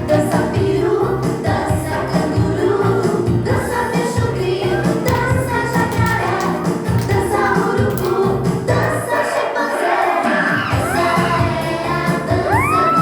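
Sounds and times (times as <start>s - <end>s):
song with singing over a beat: 0.0s - 13.0s.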